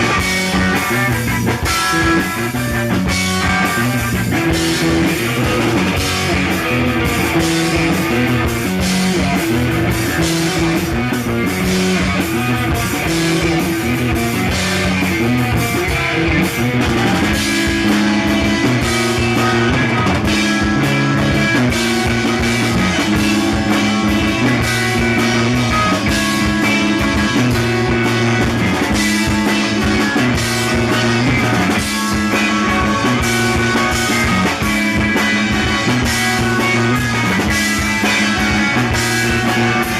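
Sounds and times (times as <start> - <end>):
blues-rock band playing: 0.0 - 39.9.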